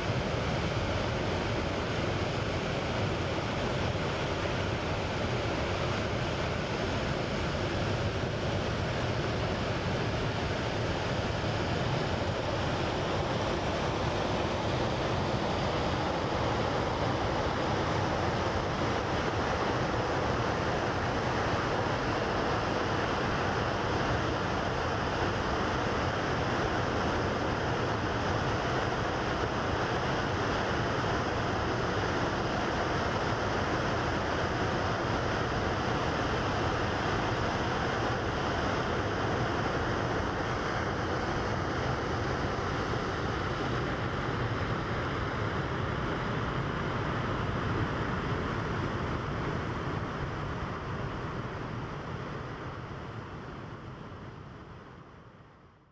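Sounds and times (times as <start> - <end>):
water rushing over a dam: 0.1 - 52.8.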